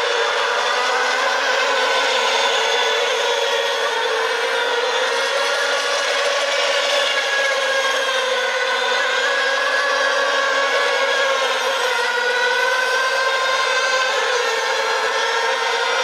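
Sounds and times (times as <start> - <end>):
model boat motors whining: 0.0 - 16.0.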